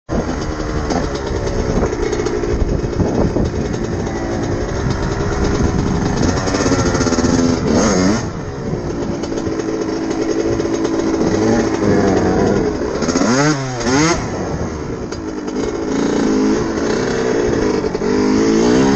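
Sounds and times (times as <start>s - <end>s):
two-stroke motorcycle engine revving: 0.1s - 18.9s.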